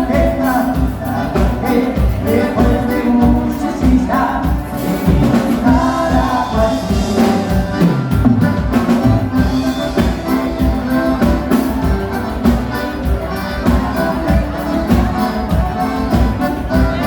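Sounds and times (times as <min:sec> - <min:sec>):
bass: 0:00.0 - 0:17.0
button accordion: 0:00.0 - 0:17.0
drum kit beat: 0:00.0 - 0:17.0.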